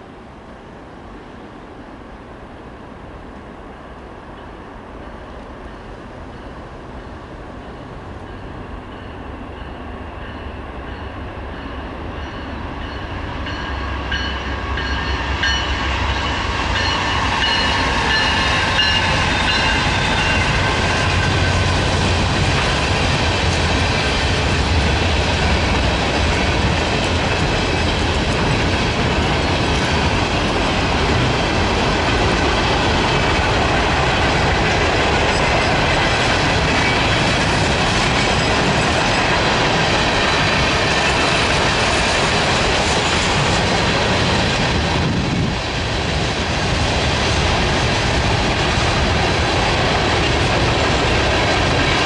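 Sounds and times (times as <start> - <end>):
freight train rumbling past: 0.0 - 52.0
rail cars clattering: 0.0 - 52.0.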